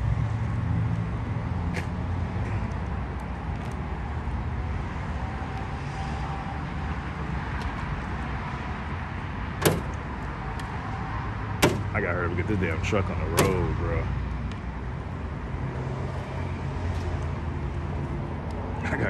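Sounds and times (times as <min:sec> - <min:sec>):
motor vehicles rumbling: 0:00.0 - 0:19.0.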